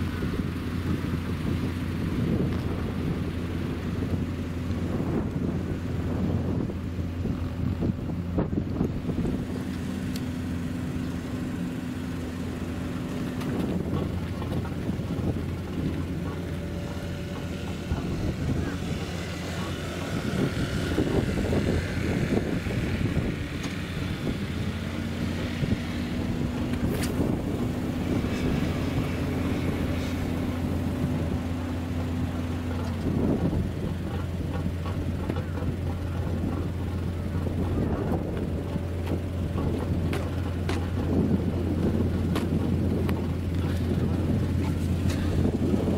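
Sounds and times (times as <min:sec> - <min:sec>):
higher humming tone: 0:00.0 - 0:45.9
low engine drone: 0:00.0 - 0:45.9.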